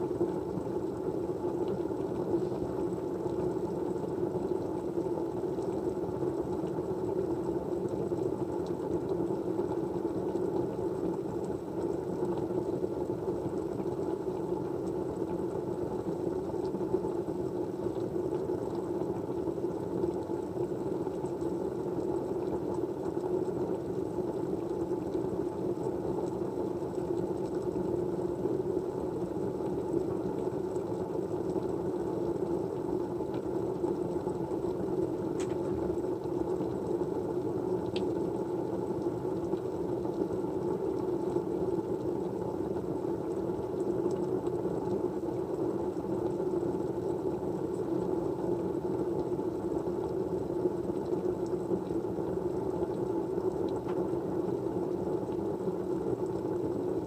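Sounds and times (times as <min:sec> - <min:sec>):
white noise hum: 0:00.0 - 0:57.0.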